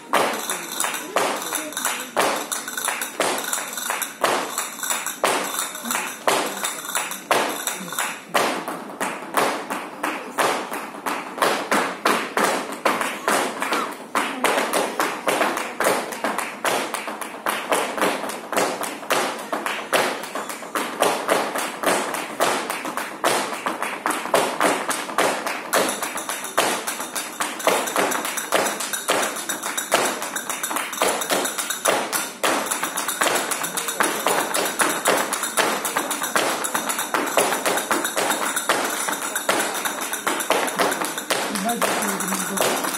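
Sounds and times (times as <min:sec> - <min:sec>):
tap shoes on stage floor: 0:00.0 - 0:42.9.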